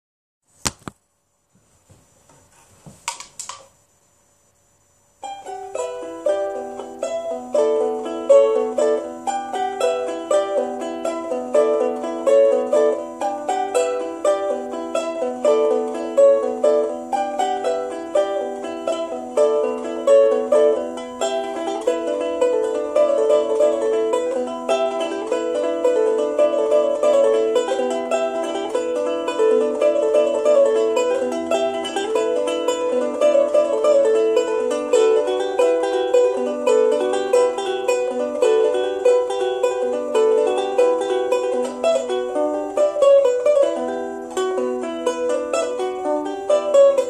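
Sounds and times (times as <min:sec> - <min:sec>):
charango folk tune: 0:05.1 - 0:47.0.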